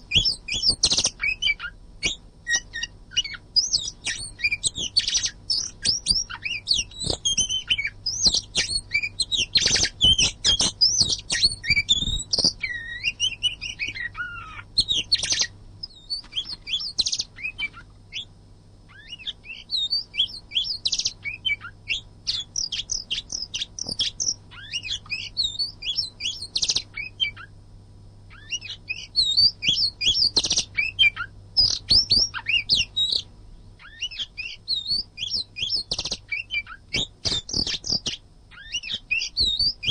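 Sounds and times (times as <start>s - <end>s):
songbird whistles and chirps: 0.0s - 18.3s, 18.9s - 27.6s, 28.3s - 39.9s.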